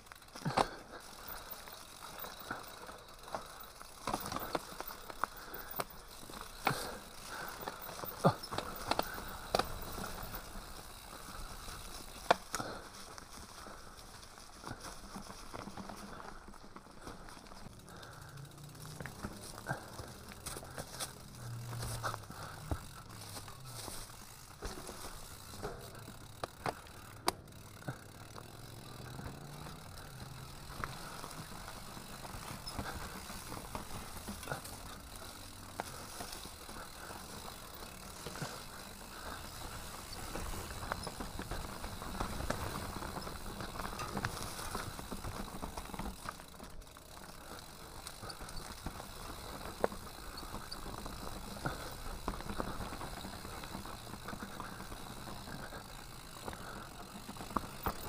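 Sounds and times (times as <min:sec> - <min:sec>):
bike rattling: 0:00.0 - 0:58.0
mountain bike tyres on trail: 0:00.0 - 0:58.0.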